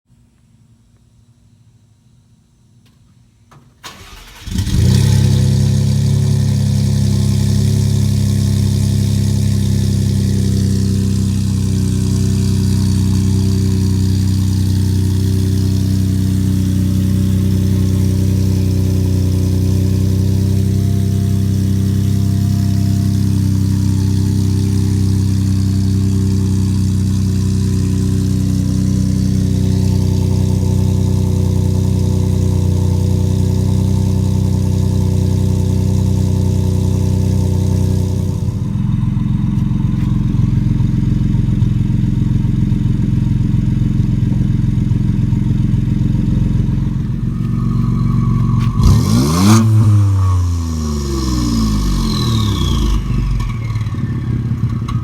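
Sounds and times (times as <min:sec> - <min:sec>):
car engine idling and revving: 0:03.8 - 0:55.0.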